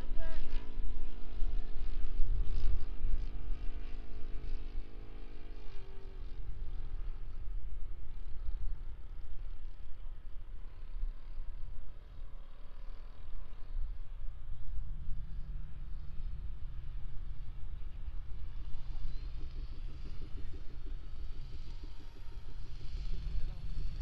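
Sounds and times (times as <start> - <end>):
model plane propeller drone: 0.0 - 24.0.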